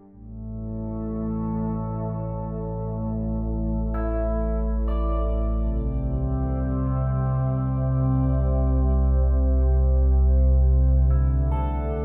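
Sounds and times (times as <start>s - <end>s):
ambient music chords: 0.0s - 12.0s.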